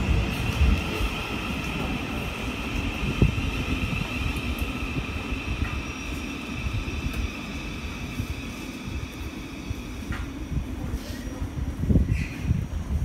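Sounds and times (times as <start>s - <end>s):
train high whine: 0.0s - 13.0s
train rumbling on tracks: 0.0s - 13.0s.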